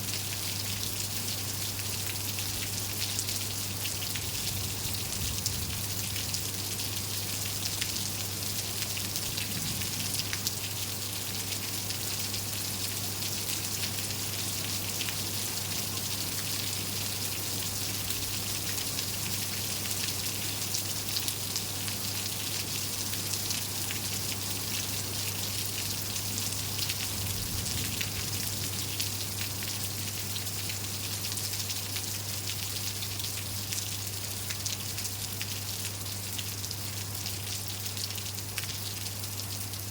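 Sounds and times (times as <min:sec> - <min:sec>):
raindrops ticking on surfaces: 0:00.0 - 0:39.9
steady rain hiss: 0:00.0 - 0:39.9.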